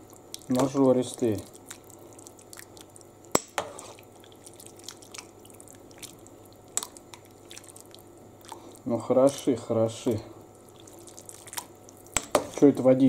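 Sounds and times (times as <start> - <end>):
spoon stirring thick soup: 0.3 - 9.6, 10.7 - 12.8.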